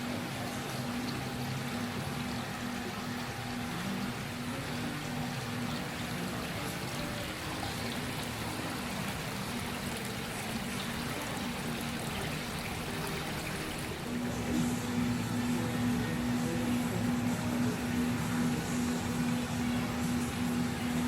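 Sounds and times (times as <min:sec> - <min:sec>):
low steady hum: 0:00.0 - 0:21.0
water running and trickling: 0:00.0 - 0:21.0.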